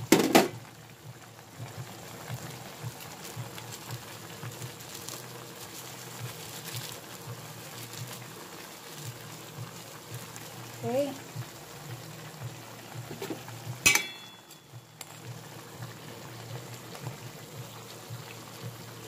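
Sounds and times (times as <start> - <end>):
liquid simmering and bubbling: 0.0 - 19.0.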